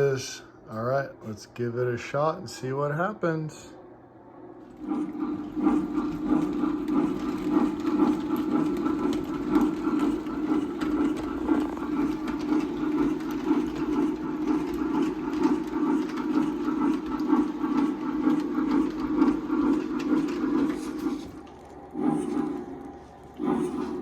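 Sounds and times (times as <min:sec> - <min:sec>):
model train running hum: 0:04.6 - 0:24.0.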